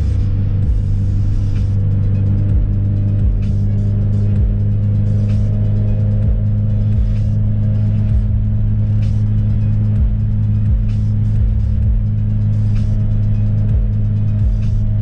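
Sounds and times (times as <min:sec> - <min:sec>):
background music with bass beat: 0:00.0 - 0:15.0.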